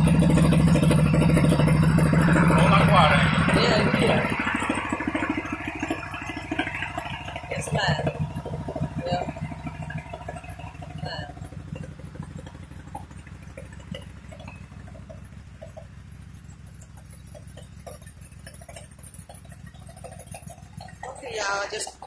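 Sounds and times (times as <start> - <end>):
trike engine idling: 0.0 - 22.0.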